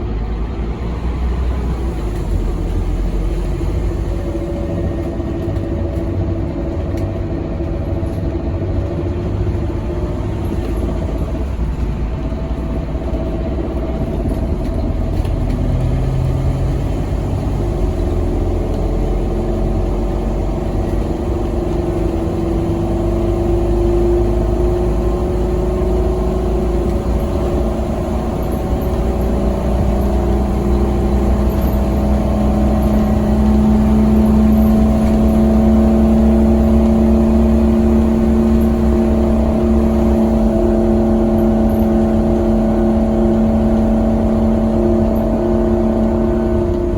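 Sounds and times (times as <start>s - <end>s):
bus diesel engine: 0.0s - 46.9s.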